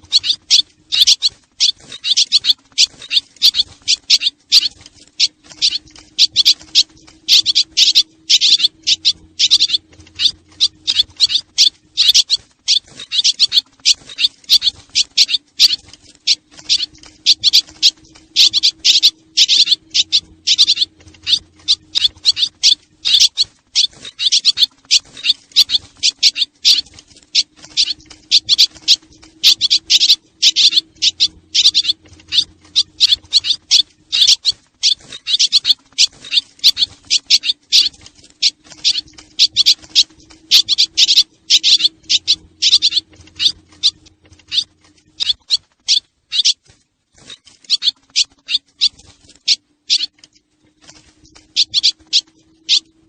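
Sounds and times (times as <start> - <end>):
swallows twittering: 0.0 - 53.0.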